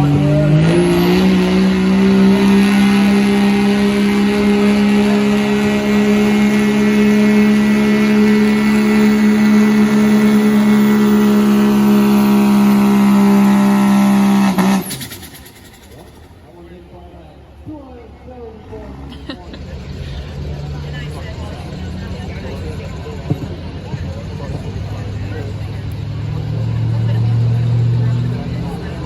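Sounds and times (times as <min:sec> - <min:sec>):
diesel truck engine at full throttle: 0:00.0 - 0:29.0.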